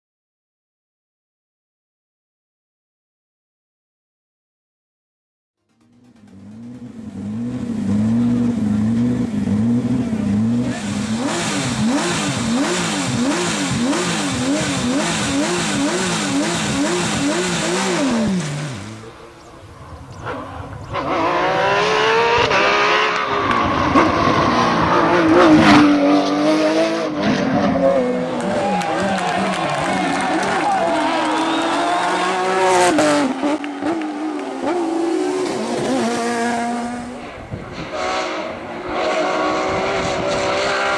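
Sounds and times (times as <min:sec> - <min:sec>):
rally car engine revving: 0:05.7 - 0:19.6, 0:20.2 - 0:40.9.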